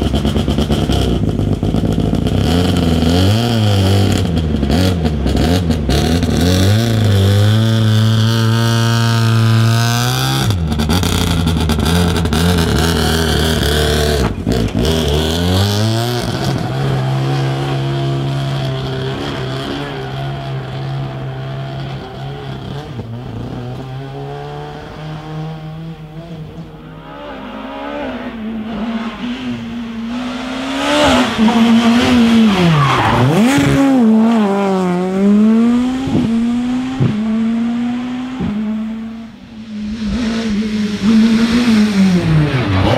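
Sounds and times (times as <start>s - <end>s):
rally car engines passing: 0.0s - 42.9s.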